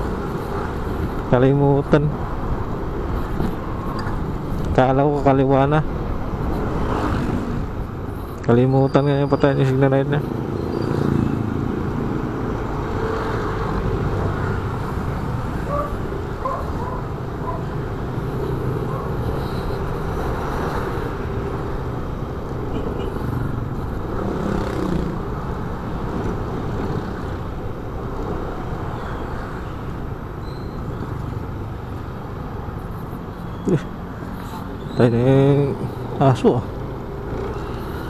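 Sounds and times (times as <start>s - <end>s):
road and wind noise: 0.0s - 38.0s.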